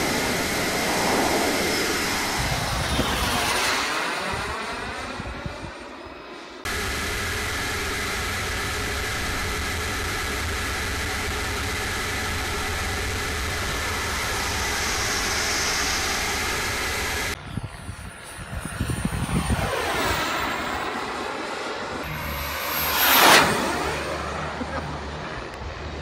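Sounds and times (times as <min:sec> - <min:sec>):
rushing air: 0:00.0 - 0:05.8, 0:06.7 - 0:26.0
turbine jet engine roar: 0:00.0 - 0:26.0.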